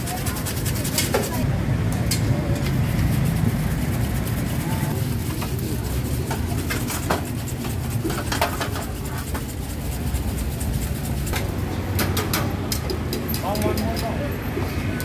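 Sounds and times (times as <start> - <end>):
sharp clicks and clatter: 0.0 - 14.2.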